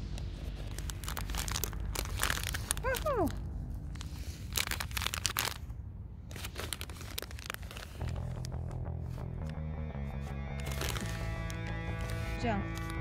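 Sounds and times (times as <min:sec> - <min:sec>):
bag crinkling and rustling: 0:00.0 - 0:09.6, 0:10.6 - 0:13.0.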